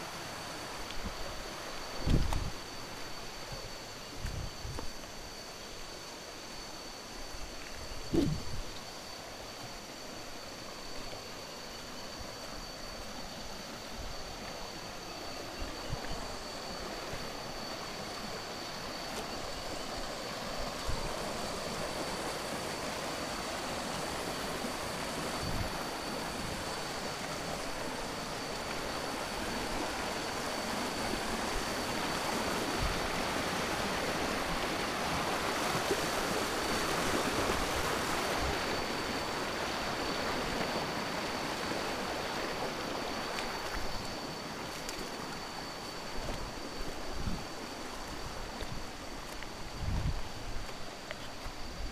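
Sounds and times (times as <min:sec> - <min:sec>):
stream rushing over rapids: 0:00.0 - 0:04.3, 0:07.6 - 0:51.9.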